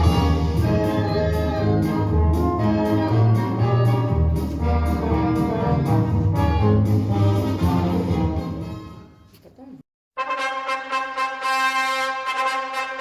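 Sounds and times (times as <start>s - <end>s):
orchestral music with brass: 0.0s - 9.2s, 10.2s - 13.0s.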